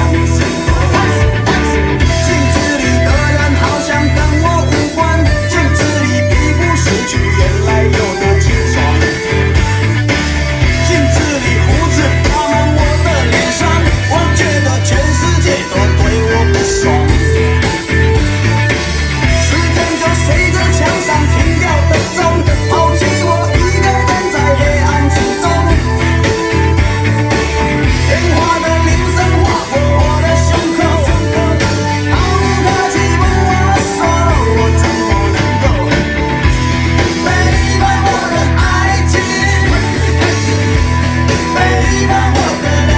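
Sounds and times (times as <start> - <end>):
rock song over car speakers: 0.0 - 42.9.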